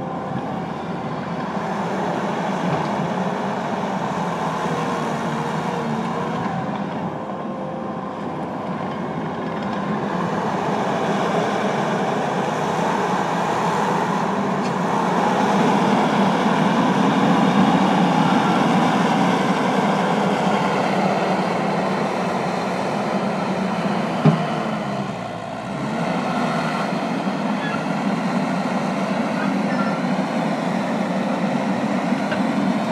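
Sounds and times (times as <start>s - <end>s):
track loader diesel rumble: 0.0s - 32.9s.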